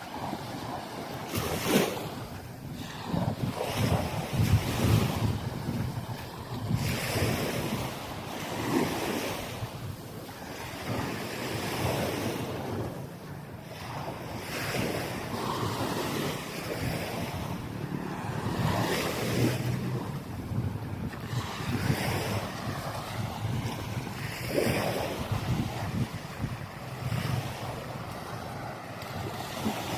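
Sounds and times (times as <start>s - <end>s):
waves washing on sand beach: 0.0s - 29.9s
wind buffeting microphone: 0.0s - 29.9s.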